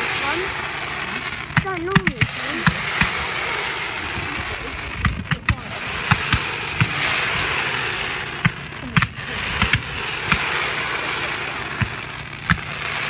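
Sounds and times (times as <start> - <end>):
background noise rush: 0.0 - 13.0
fireworks bangs and pops: 0.0 - 13.0.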